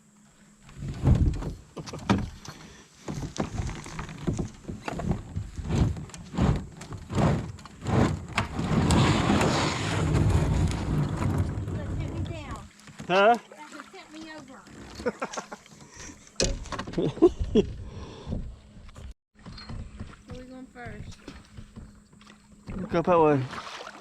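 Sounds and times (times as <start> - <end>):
kayak hull scraping: 0.6 - 24.0
knocks and thumps against kayak hull: 0.7 - 23.9.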